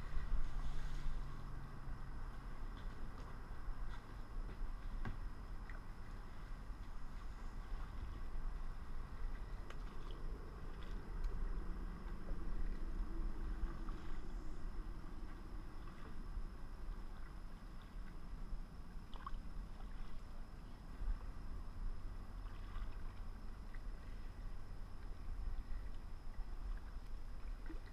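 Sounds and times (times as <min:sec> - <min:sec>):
water sloshing against a hull: 0:00.0 - 0:27.9.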